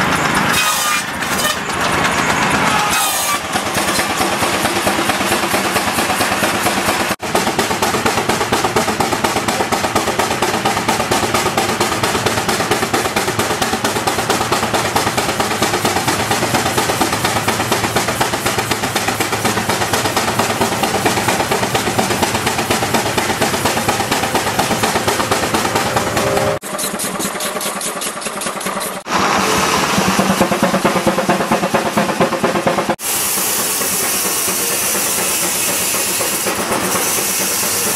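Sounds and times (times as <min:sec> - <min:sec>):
steam engine exhaust beating: 0:00.0 - 0:37.9.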